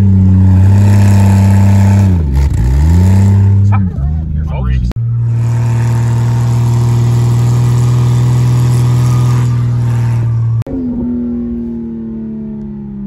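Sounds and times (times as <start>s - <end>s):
car engine drone: 0.0s - 13.0s
wind and tyre noise: 0.0s - 13.0s.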